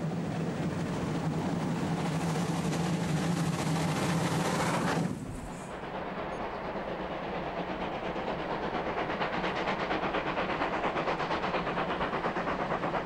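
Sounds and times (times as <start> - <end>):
steam locomotive exhaust beats: 0.0 - 13.0.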